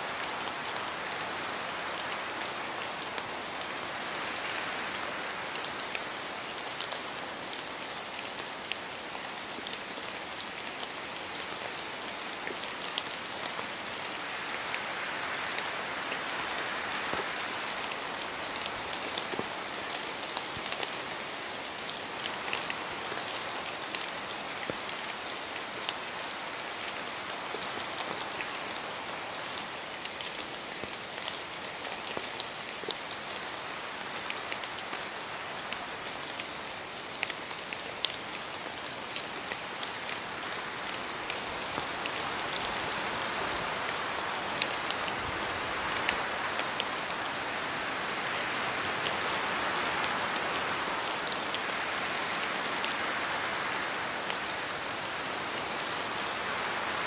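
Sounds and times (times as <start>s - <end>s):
steady rain with drop ticks: 0.0s - 57.0s.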